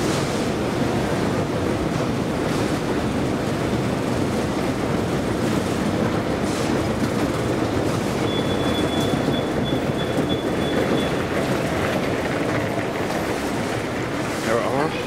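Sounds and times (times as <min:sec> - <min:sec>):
escalator rumbling and clattering: 0:00.0 - 0:15.0.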